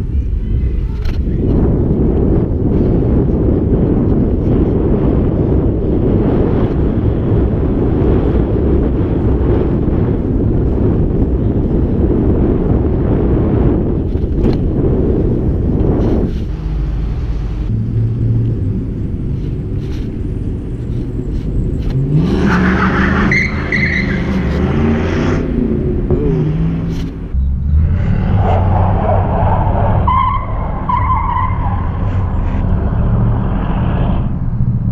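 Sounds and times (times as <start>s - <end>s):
motor vehicle engine: 0.0s - 34.9s
road rumble: 0.0s - 34.9s
wind buffeting microphone: 0.0s - 34.9s.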